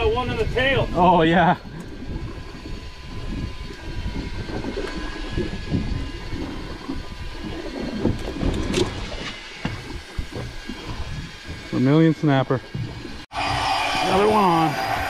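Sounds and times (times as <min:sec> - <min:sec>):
boat noise: 0:00.0 - 0:15.0
wind rumble on microphone: 0:00.0 - 0:15.0.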